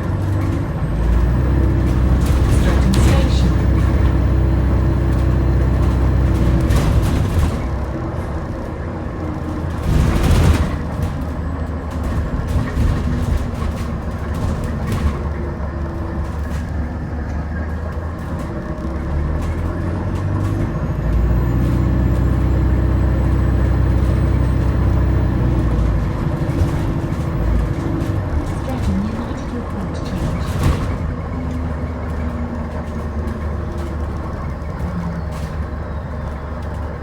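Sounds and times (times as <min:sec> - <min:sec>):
bus engine drone: 0:00.0 - 0:37.0.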